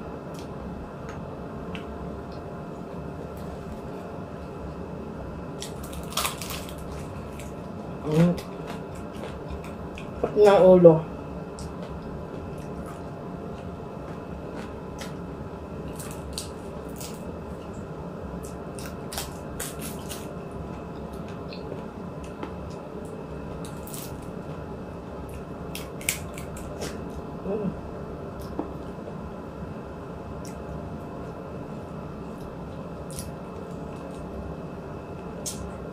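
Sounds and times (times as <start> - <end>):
low background hum: 0.0 - 35.9.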